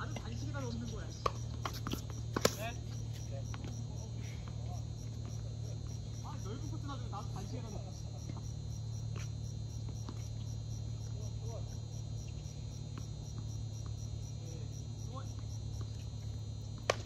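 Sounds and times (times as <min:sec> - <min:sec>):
crickets chirping: 0:00.0 - 0:17.0
steady low hum: 0:00.0 - 0:17.0.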